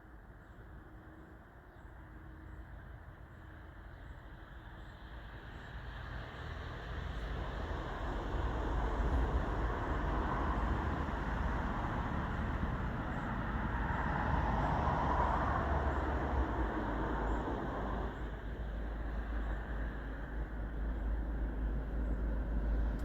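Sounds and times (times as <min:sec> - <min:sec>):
passing train rumble: 0:00.8 - 0:23.0.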